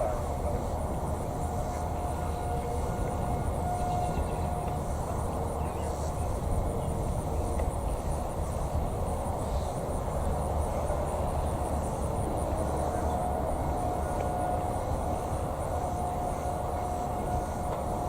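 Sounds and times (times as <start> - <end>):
distant tornado siren tone: 0.0 - 8.4, 10.2 - 18.0
insects chirping: 0.0 - 18.0.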